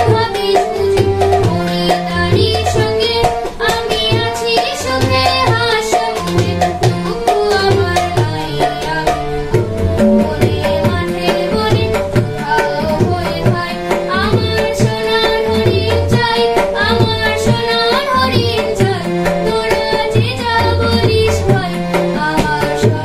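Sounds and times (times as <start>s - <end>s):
boy singing: 0.0s - 23.0s
harmonium: 0.0s - 23.0s
tabla strokes: 0.0s - 23.0s.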